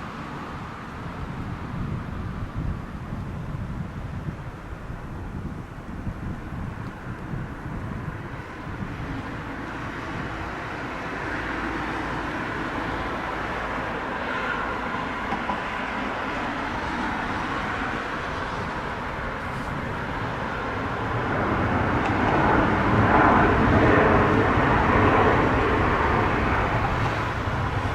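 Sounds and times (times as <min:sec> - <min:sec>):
jet airliner landing rumble: 0:00.0 - 0:27.9.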